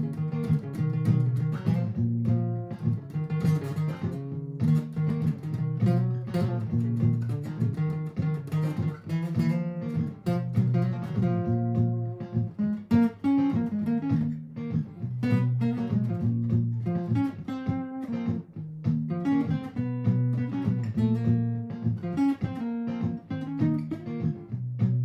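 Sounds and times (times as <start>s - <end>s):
acoustic guitar plucked and strummed: 0.0s - 25.0s.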